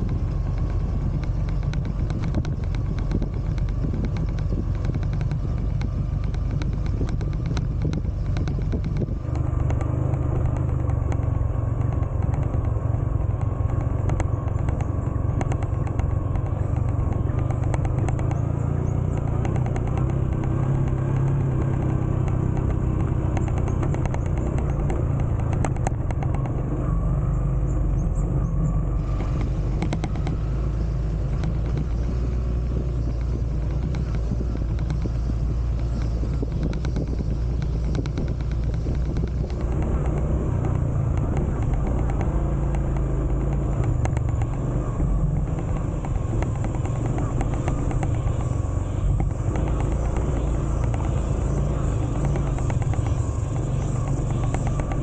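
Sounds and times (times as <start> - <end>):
rattles and knocks: 0.0 - 28.0, 28.6 - 55.0
motorcycle engine running: 0.0 - 55.0.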